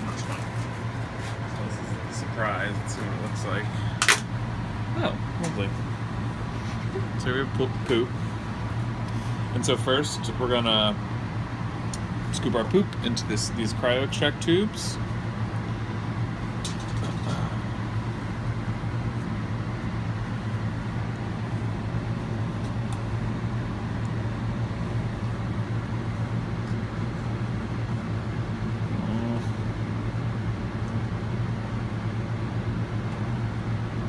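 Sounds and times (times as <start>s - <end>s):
blower fan humming: 0.0s - 34.0s.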